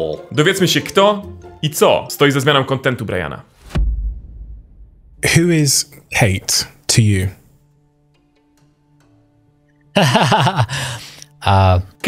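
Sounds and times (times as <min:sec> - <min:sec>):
soft low background music: 0:00.0 - 0:04.0, 0:05.2 - 0:12.0.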